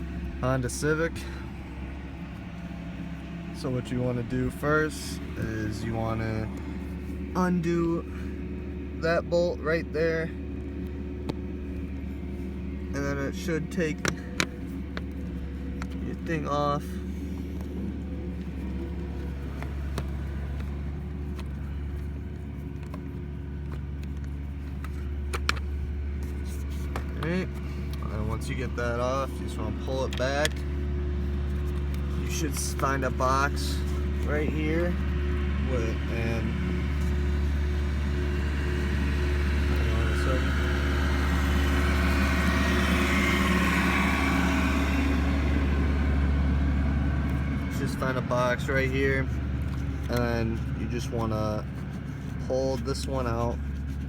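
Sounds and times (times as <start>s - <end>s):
low hum: 0.0s - 54.0s
vehicle engine idling: 0.0s - 54.0s.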